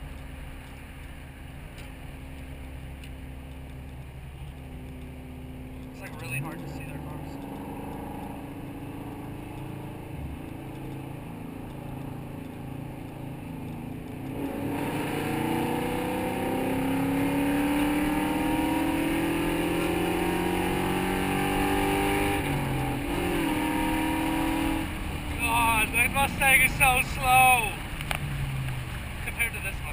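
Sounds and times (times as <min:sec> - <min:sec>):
car engine accelerating: 0:00.0 - 0:29.9.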